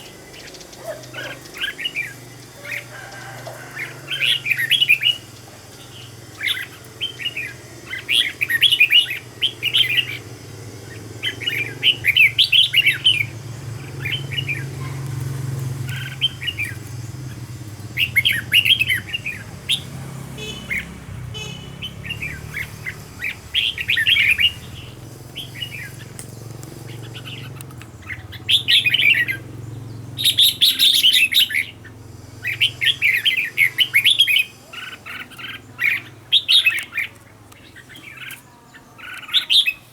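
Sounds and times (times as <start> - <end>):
bird warbling: 0.0 - 39.9.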